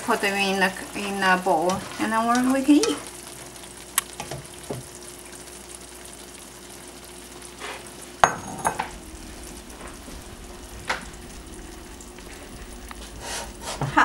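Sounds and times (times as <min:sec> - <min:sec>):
noodles sizzling in a pan: 0:00.0 - 0:14.0.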